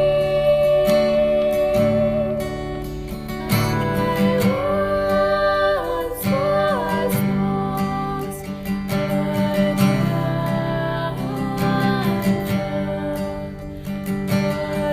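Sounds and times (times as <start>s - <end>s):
acoustic guitar: 0.0s - 14.9s
woman singing: 0.0s - 14.9s.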